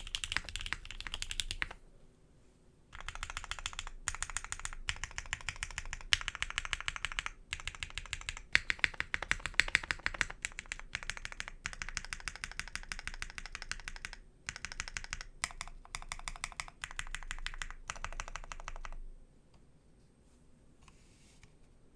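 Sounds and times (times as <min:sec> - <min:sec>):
mechanical keyboard typing: 0:00.0 - 0:01.8, 0:03.0 - 0:19.0.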